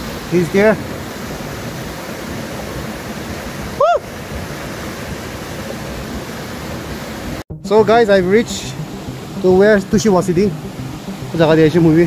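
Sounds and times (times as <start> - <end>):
flooded river rushing: 0.0 - 12.0.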